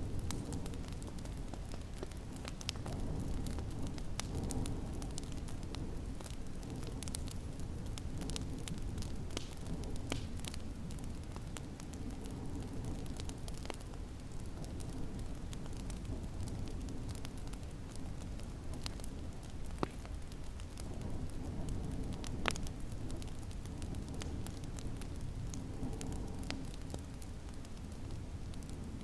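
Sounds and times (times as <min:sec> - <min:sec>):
snowstorm wind rumble: 0:00.0 - 0:29.0
wood fire crackling and popping: 0:00.0 - 0:29.0.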